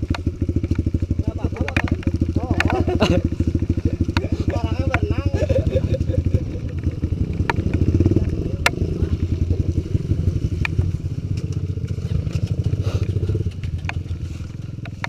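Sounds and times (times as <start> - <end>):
motorcycle engine running: 0.0 - 15.0
sharp clicks and clatter: 0.0 - 15.0.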